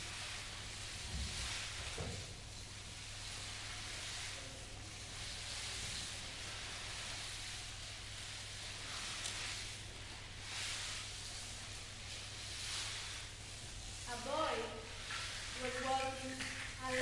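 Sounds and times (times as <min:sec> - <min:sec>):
rushing hiss: 0:00.0 - 0:17.0
steady low hum: 0:00.0 - 0:17.0.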